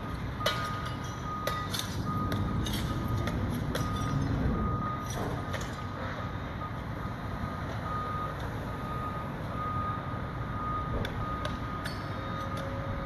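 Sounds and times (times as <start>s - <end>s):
diesel engine rumble: 0.0s - 13.0s
reversing alarm beeping: 0.0s - 13.0s.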